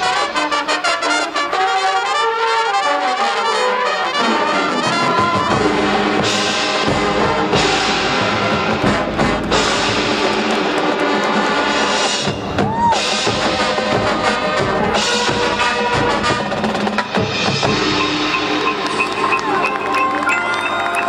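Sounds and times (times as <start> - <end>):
marching band playing: 0.0 - 21.0
drums: 3.9 - 21.0.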